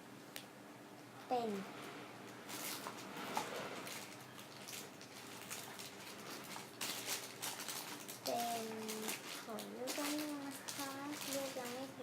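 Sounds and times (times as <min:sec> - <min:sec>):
rustling and handling noises: 0:01.2 - 0:12.0.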